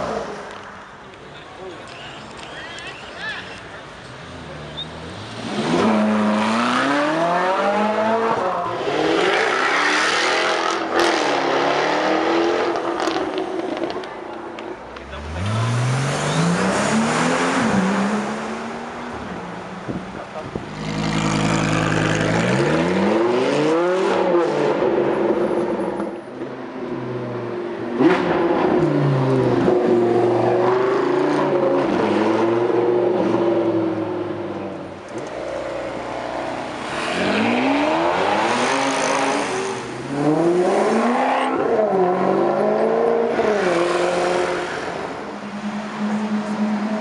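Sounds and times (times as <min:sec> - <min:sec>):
car engines accelerating hard: 0:03.6 - 0:47.0.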